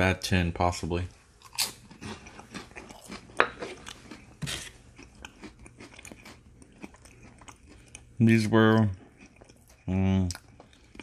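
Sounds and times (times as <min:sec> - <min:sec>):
wet chewing: 0:01.4 - 0:11.0.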